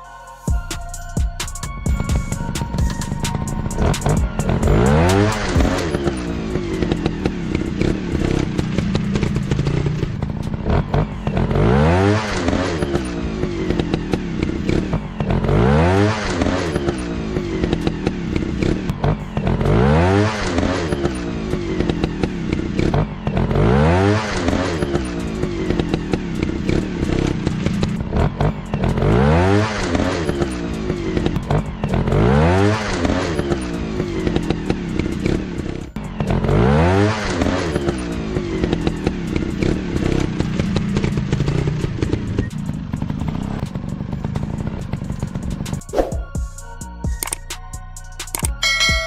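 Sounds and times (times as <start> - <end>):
dirt bike engines revving: 2.5 - 45.9.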